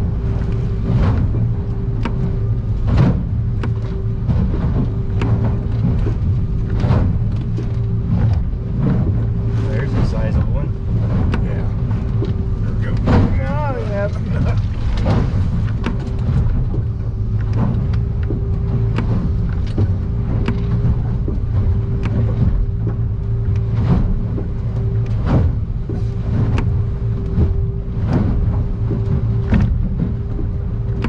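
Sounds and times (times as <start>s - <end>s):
boat engine and hull rumble: 0.0s - 31.0s
steady whine: 0.0s - 31.0s
waves knocking and splashing on hull: 0.0s - 31.0s.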